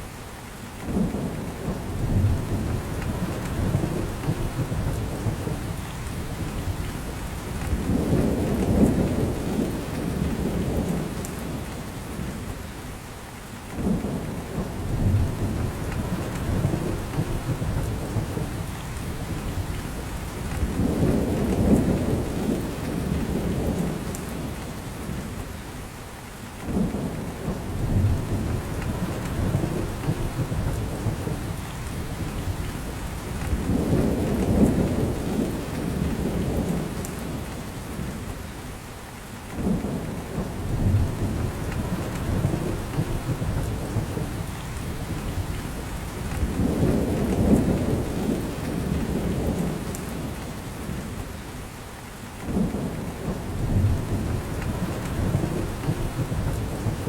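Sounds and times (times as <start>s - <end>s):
steady rain in forest: 0.0s - 57.0s.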